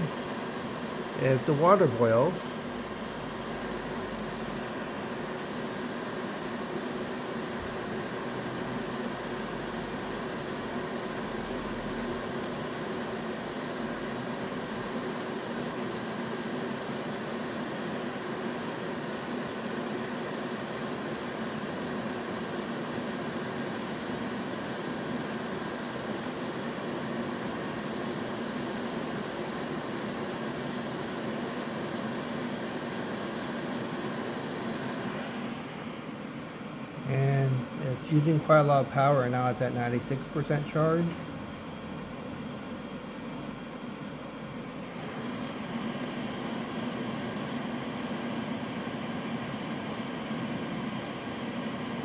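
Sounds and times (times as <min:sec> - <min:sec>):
cooling fans whirring: 0:00.0 - 0:52.0
kettle heating water: 0:00.0 - 0:52.0.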